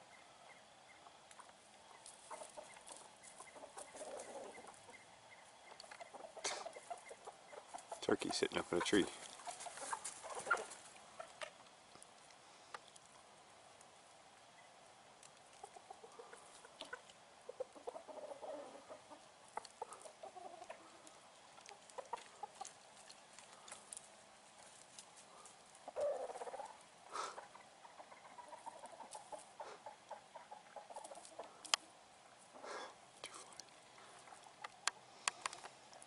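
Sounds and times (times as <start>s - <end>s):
chickens clucking softly: 0.0s - 36.0s.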